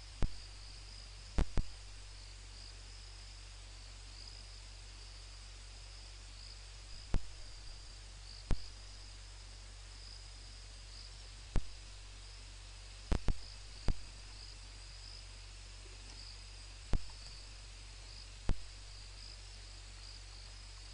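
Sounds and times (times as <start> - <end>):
hiss: 0.0 - 20.9
insects trilling: 0.0 - 20.9
low hum: 0.0 - 20.9.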